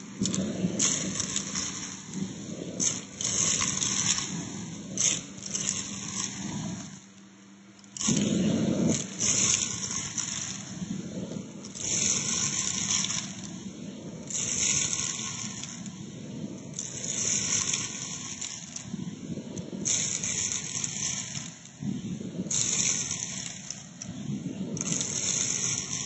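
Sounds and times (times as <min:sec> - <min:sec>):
grains crackling and rattling: 0:00.0 - 0:26.0
vacuum sucking up grains: 0:00.0 - 0:26.0.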